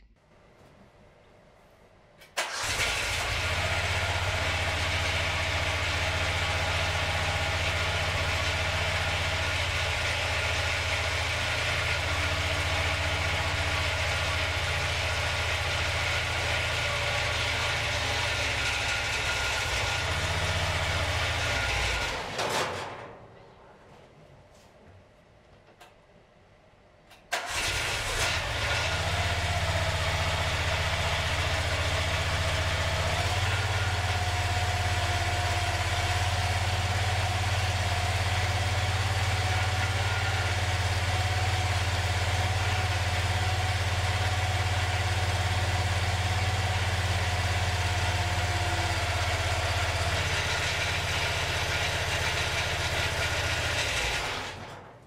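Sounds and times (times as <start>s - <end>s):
small engine running: 2.4s - 22.8s, 27.4s - 54.9s.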